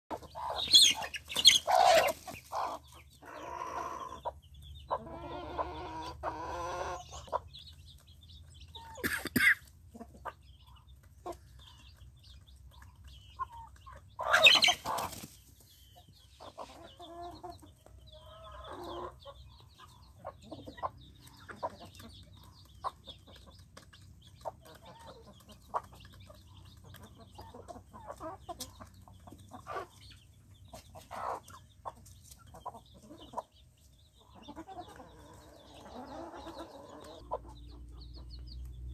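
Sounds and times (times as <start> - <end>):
chicks peeping: 0.1 - 38.9
hens clucking: 0.1 - 38.9.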